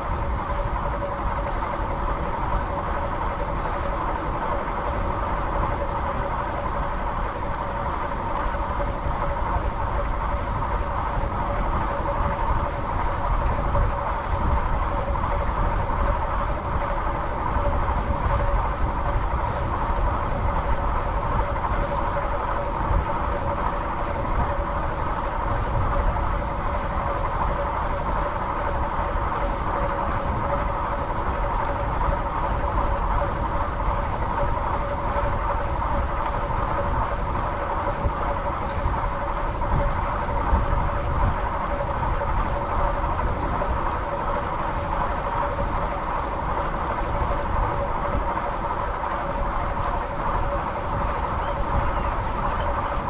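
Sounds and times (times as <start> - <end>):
constant hum: 0.0 - 53.0
wind rumbling on microphone: 0.0 - 53.0.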